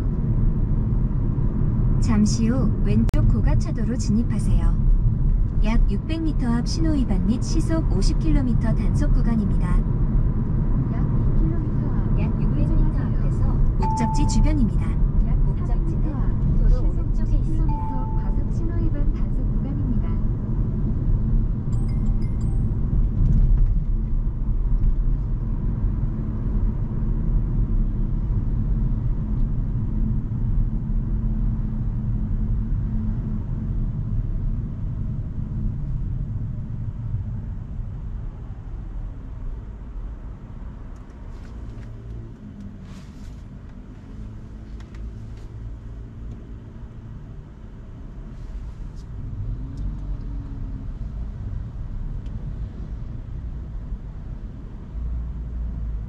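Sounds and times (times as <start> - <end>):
car road and tyre rumble: 0.0 - 56.0.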